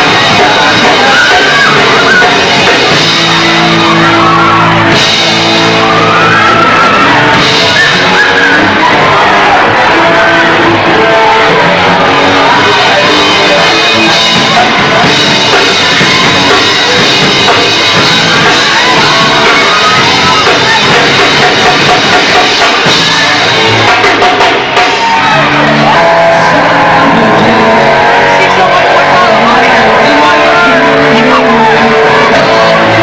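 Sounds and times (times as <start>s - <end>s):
bass guitar: 0.0s - 33.0s
drum kit: 0.0s - 33.0s
electric guitars: 0.0s - 33.0s.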